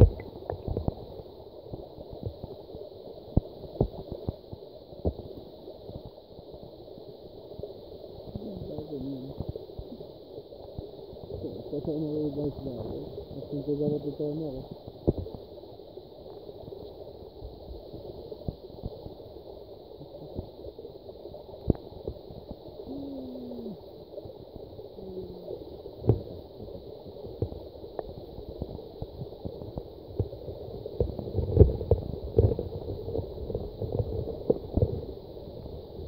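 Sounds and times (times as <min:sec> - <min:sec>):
low rumbling underwater noise: 0:00.0 - 0:36.0.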